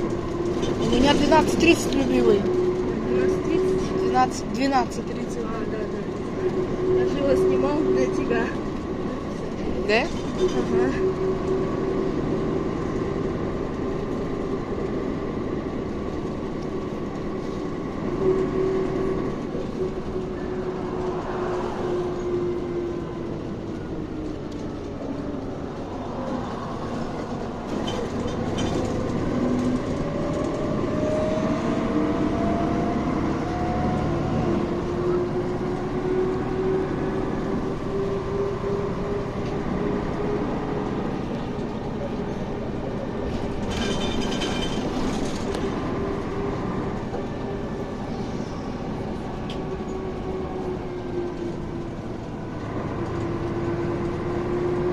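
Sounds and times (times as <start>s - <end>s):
bus drive whine: 0.0s - 54.9s
bus running rumble: 0.0s - 54.9s.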